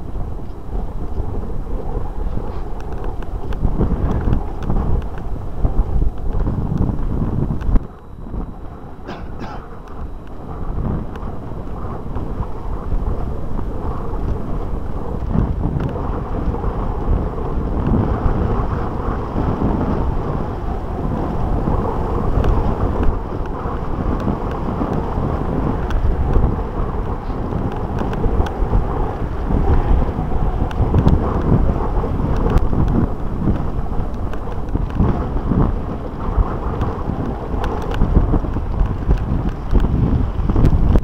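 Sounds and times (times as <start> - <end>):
bike rumbling and rattling: 0.0 - 41.0
wind buffeting microphone: 0.0 - 41.0.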